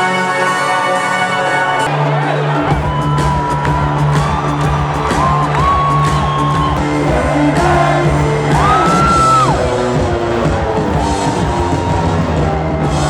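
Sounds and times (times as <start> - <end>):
crowd whooping: 0.0 - 13.0
loud live concert music: 0.0 - 13.0.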